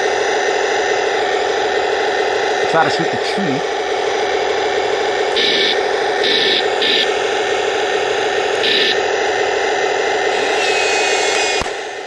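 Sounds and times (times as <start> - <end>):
toy tank engine rumble from speaker: 0.0 - 12.0.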